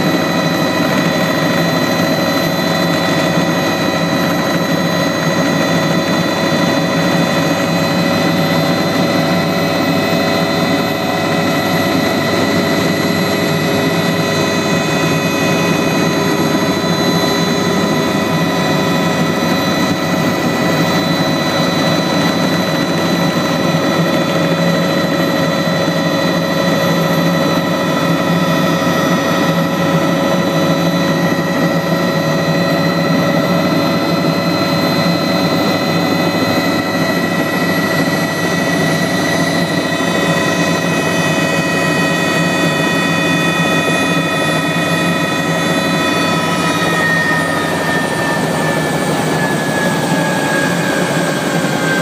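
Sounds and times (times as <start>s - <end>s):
helicopter engine and rotor drone: 0.0s - 52.0s
helicopter turbine whine: 0.0s - 52.0s.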